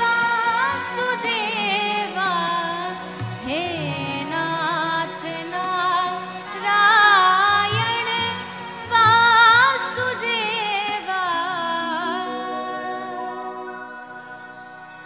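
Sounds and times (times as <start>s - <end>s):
woman singing a devotional hymn: 0.0s - 14.1s.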